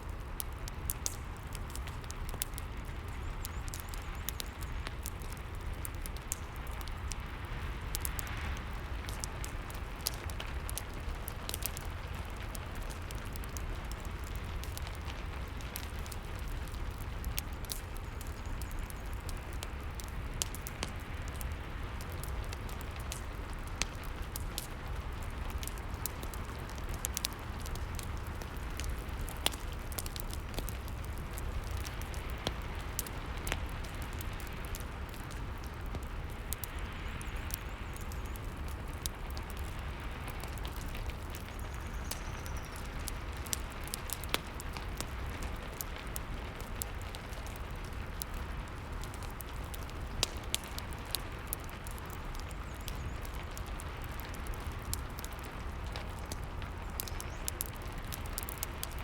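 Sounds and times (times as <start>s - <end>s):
burning wood crackling: 0.0s - 59.0s.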